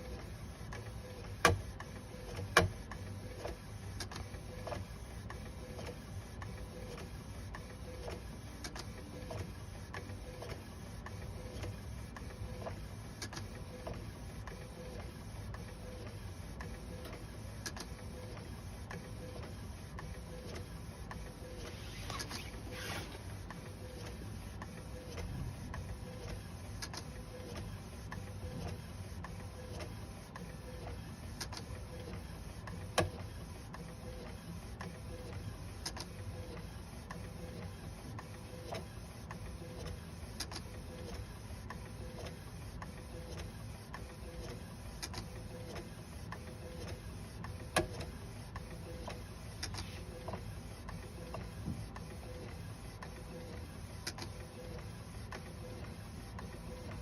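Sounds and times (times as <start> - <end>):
food printer running: 0.0 - 57.0.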